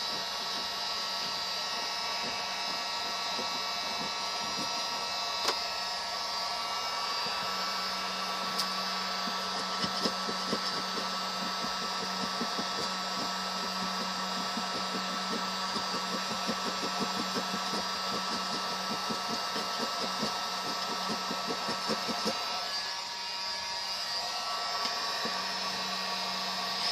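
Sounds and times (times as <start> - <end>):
electric hot-air blower running: 0.0 - 26.9.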